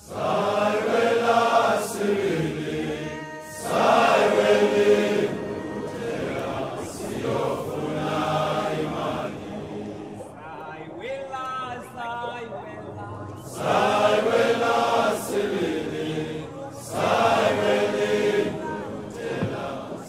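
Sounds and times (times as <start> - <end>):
choir chanting: 0.0 - 11.1, 11.7 - 20.0.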